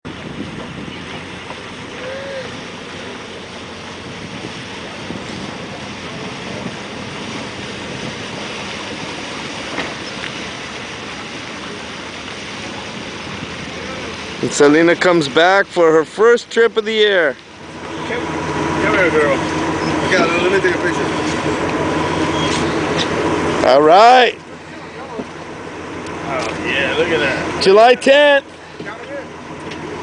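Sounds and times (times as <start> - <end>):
wind and water noise: 0.0 - 30.0.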